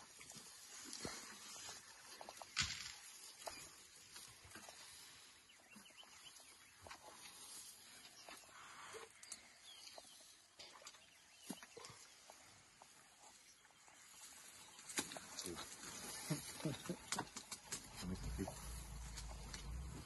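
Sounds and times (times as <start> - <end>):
elephants feeding in dry grass: 0.0 - 20.0.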